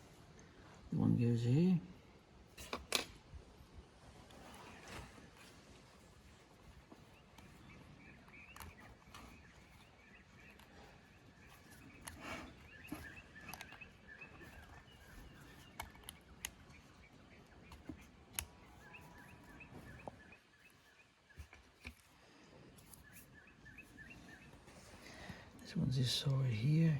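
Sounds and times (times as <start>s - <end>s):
bird chirping: 4.4s - 26.9s.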